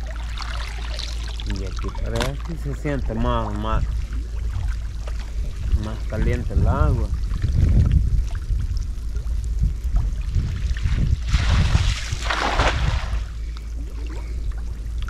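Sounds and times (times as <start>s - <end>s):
low rumble: 0.0s - 15.0s
water sloshing and splashing: 0.0s - 15.0s.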